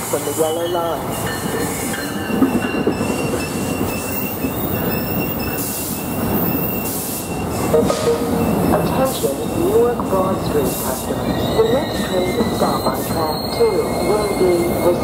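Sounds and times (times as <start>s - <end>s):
lower wheel squeal: 0.0s - 15.0s
train wheels clattering on rail: 0.0s - 15.0s
high-pitched wheel squeal: 0.2s - 15.0s.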